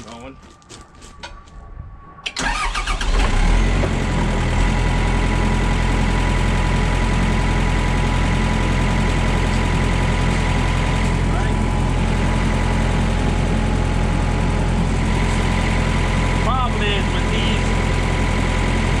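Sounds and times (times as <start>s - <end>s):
excavator diesel engine idling: 3.6s - 19.0s.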